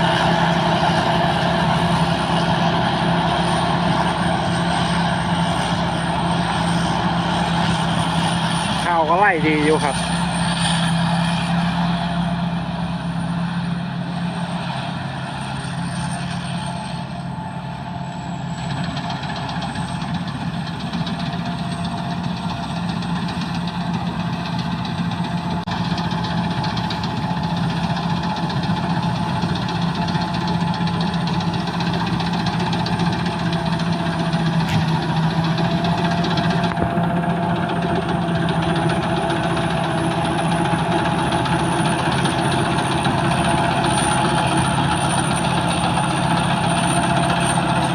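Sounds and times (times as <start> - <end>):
combine harvester running: 0.0 - 47.9.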